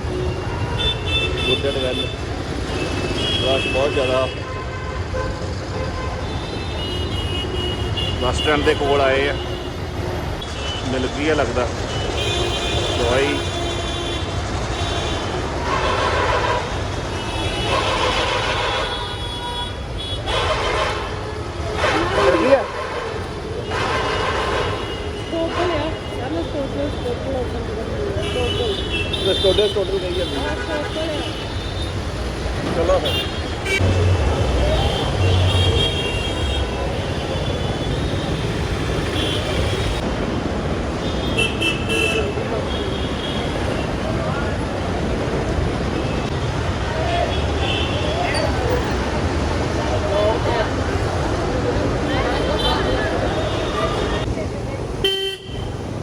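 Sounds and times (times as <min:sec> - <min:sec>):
vehicle engines rumbling: 0:00.0 - 0:56.0.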